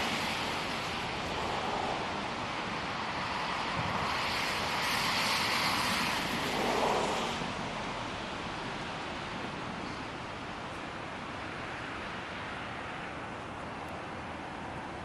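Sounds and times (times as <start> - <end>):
blizzard wind on microphone: 0.0 - 15.0.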